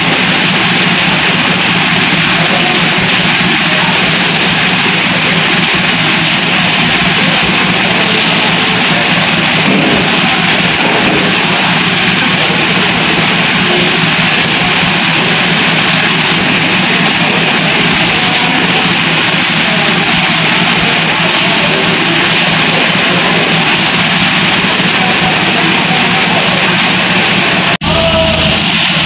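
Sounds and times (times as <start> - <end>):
tractor diesel engine idling: 0.0 - 29.0.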